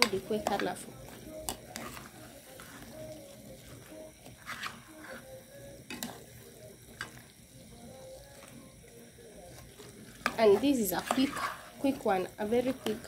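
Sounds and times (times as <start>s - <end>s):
low sizzle: 0.0s - 13.0s
spoon stirring potatoes in a pot: 0.0s - 13.0s.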